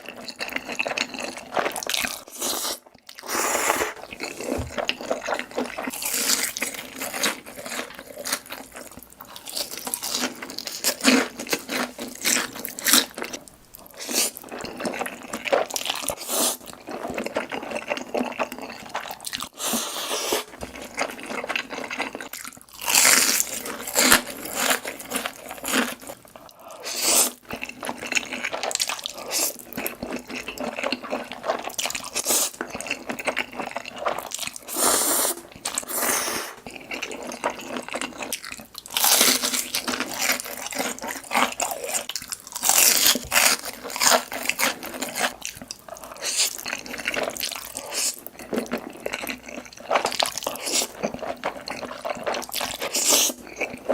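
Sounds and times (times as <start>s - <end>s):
person chewing and biting: 0.2s - 53.9s.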